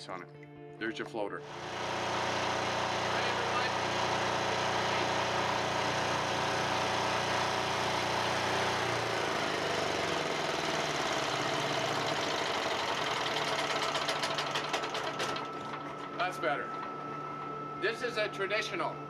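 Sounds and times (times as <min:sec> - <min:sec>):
generator engine running: 0:01.4 - 0:19.0.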